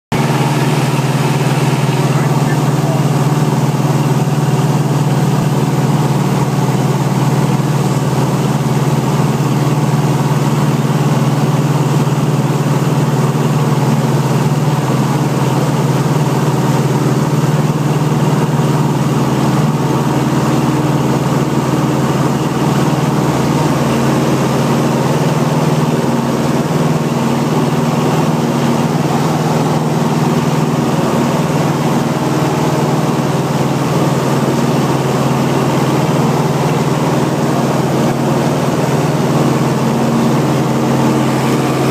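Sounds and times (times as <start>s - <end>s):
aircraft engine and propeller drone: 0.1s - 41.9s.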